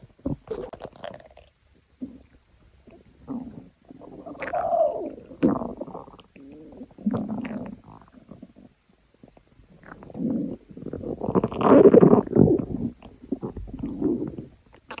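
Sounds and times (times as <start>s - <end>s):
stomach growling: 0.1s - 15.0s.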